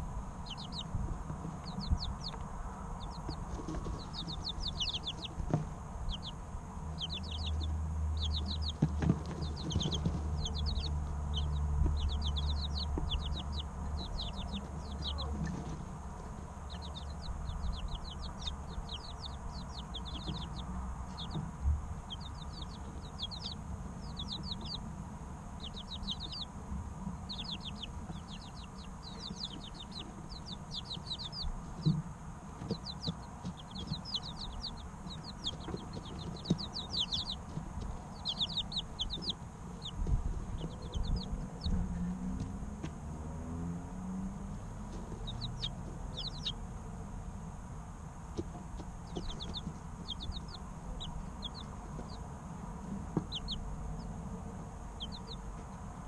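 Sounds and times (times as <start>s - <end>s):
low rumble: 0.0s - 31.7s, 32.8s - 47.7s
chicks peeping: 0.0s - 56.0s.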